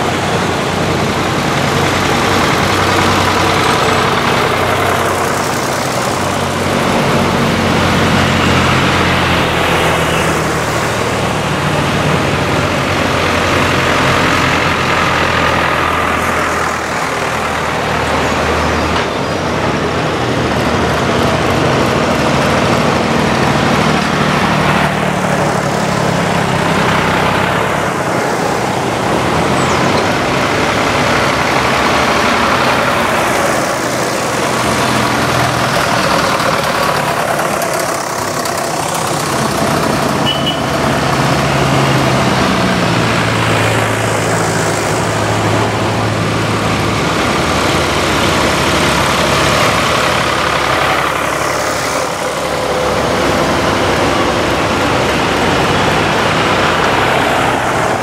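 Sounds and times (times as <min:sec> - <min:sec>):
tractor engines driving past: 0:00.0 - 0:58.0.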